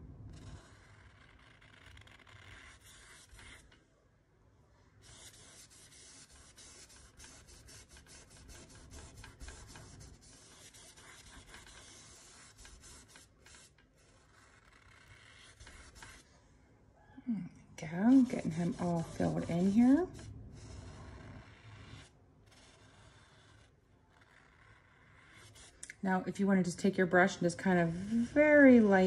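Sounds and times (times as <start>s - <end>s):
paintbrush rubbing on canvas: 0.4s - 3.7s, 5.0s - 16.3s, 17.8s - 25.8s, 26.8s - 29.0s.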